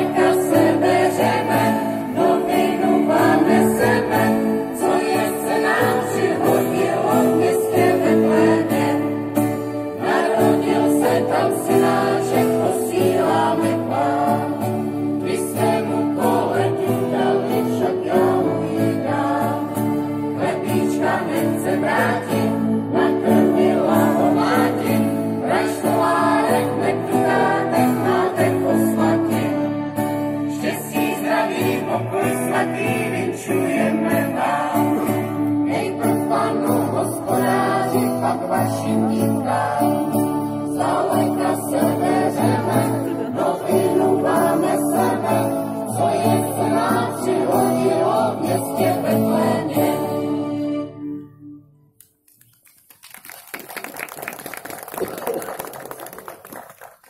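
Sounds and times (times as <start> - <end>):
small choir singing: 0.0 - 51.4
acoustic guitar: 0.0 - 53.0.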